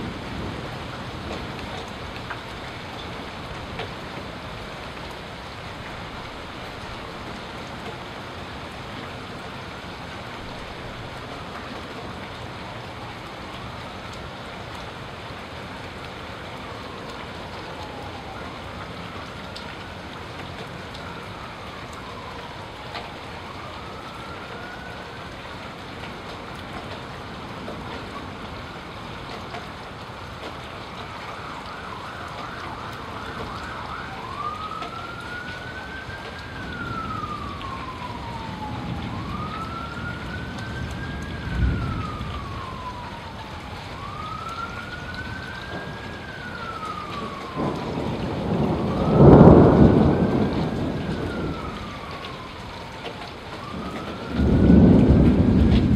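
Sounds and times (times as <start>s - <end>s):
emergency siren wailing: 0.0s - 55.9s
rain: 0.0s - 55.9s.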